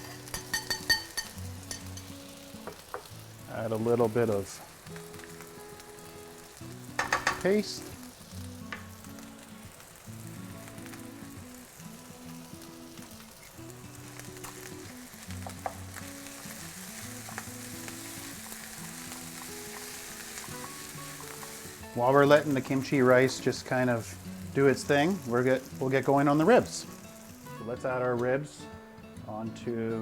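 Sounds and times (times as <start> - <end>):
rice sizzling in a pan: 0.0 - 28.1
soft background music: 0.0 - 30.0.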